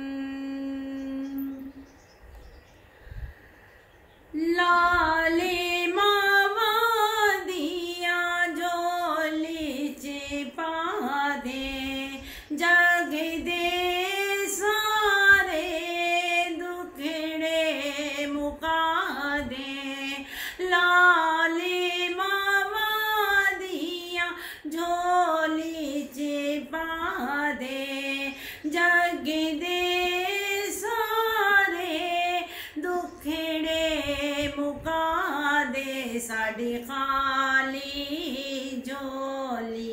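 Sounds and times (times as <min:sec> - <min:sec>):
woman singing unaccompanied: 0:00.0 - 0:02.0, 0:04.3 - 0:39.9.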